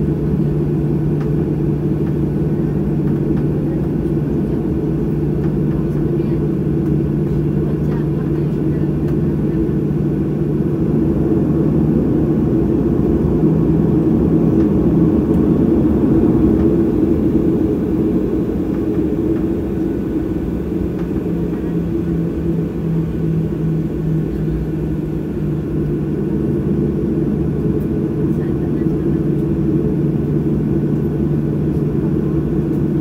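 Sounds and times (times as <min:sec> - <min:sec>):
jet engines rumbling: 0:00.0 - 0:33.0.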